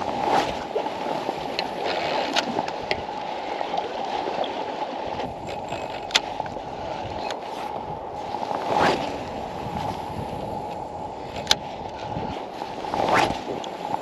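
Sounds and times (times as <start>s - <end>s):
water washing and sloshing: 0.0s - 14.0s.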